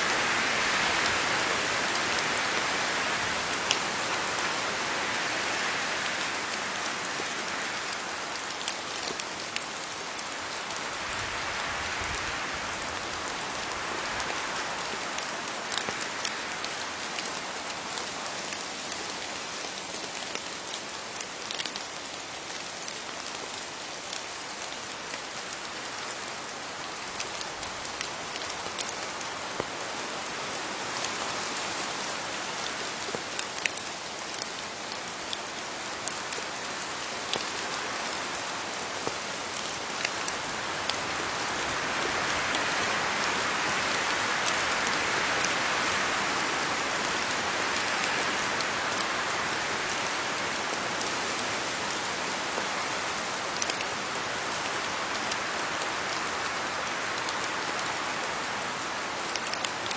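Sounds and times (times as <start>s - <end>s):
rain hissing on leaves: 0.0s - 59.9s.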